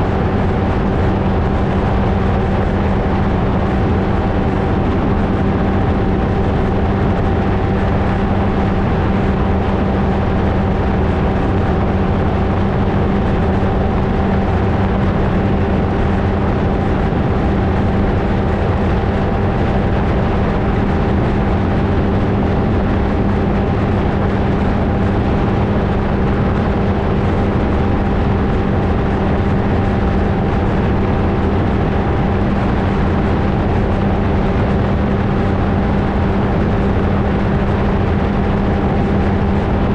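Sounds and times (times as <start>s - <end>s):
ultralight engine and propeller: 0.0s - 39.9s.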